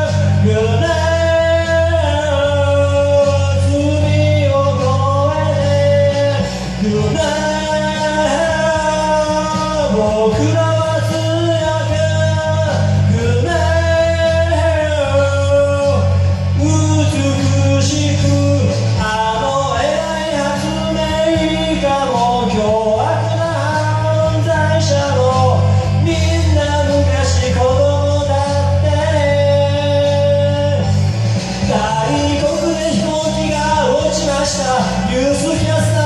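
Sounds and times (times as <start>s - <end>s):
rock backing track: 0.0s - 36.0s.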